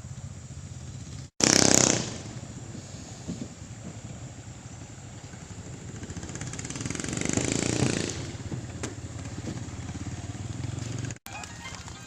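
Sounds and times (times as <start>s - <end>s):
motor passing by: 0.0s - 12.0s
small engine running: 0.0s - 12.0s.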